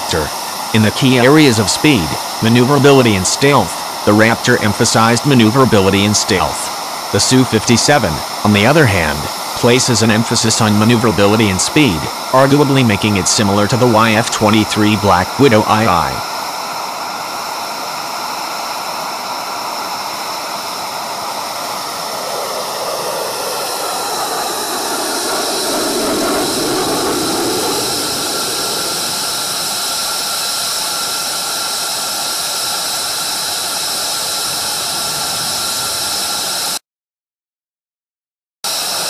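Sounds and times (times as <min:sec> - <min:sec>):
jet engine rush with whine: 0:00.0 - 0:36.8, 0:38.7 - 0:39.0.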